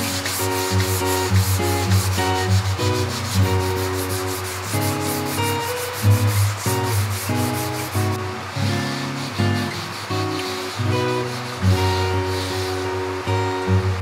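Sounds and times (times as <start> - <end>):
fast scratching rhythm: 0.0 - 8.2, 9.1 - 13.2
plucked-string music: 0.0 - 14.0.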